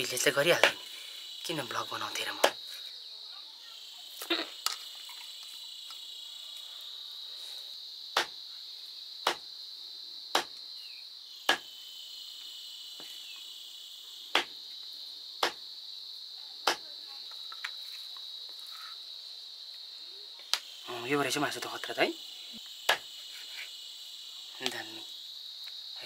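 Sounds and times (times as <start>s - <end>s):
insect chirring: 0.0s - 26.0s.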